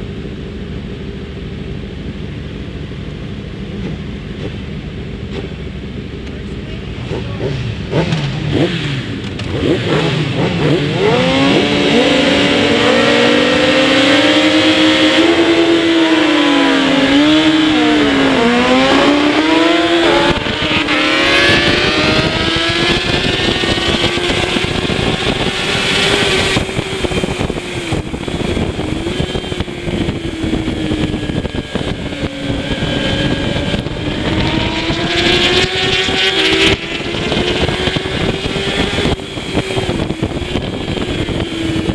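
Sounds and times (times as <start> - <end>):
motorcycle engine running hard: 0.0 - 41.9.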